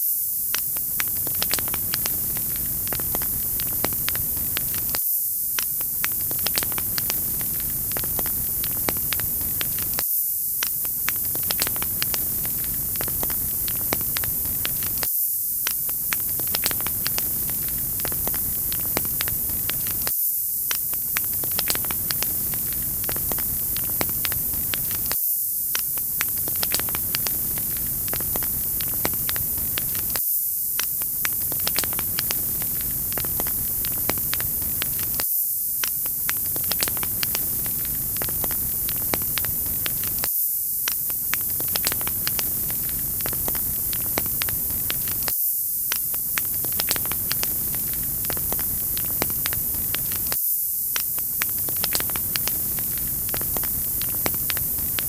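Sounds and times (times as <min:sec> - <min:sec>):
wood fire crackling: 0:00.5 - 0:05.0, 0:05.6 - 0:10.0, 0:10.6 - 0:20.1, 0:20.7 - 0:30.2, 0:30.8 - 0:35.2, 0:35.8 - 0:40.3, 0:40.9 - 0:45.3, 0:46.0 - 0:55.0.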